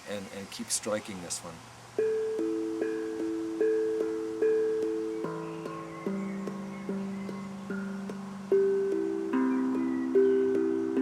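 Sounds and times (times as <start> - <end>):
steel tongue drum notes: 0.0 - 11.0.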